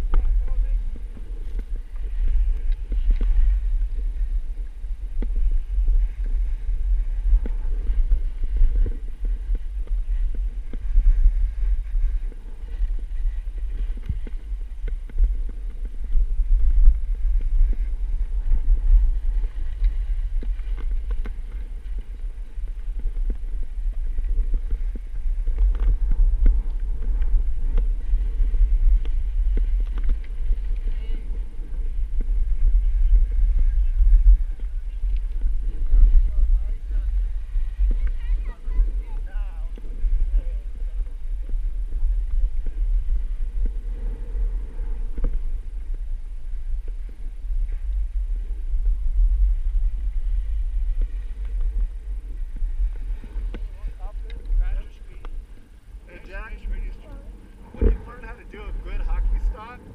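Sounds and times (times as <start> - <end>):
skis scraping over snow: 0.0 - 59.9
wind buffeting microphone: 0.0 - 59.9.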